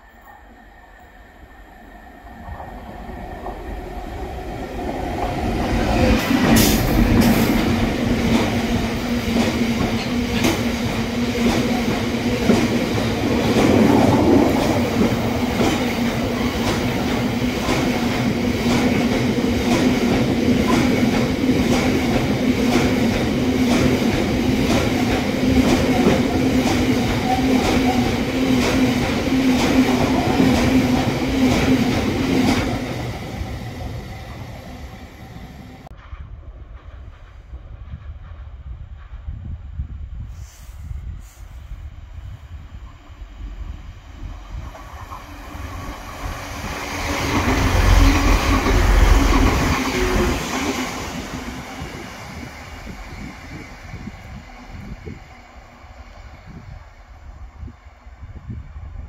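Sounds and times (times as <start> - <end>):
diesel locomotive passing: 0.0 - 40.2, 41.7 - 59.0.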